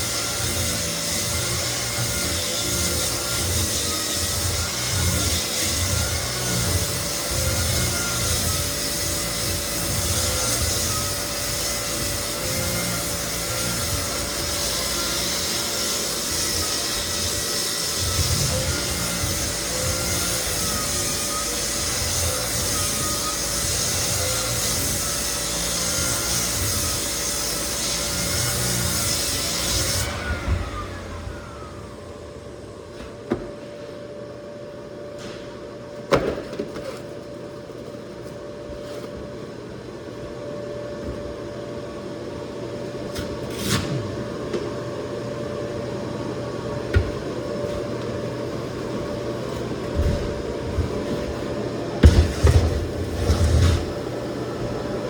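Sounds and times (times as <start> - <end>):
floor sander grinding: 0.0 - 34.4, 35.2 - 55.0.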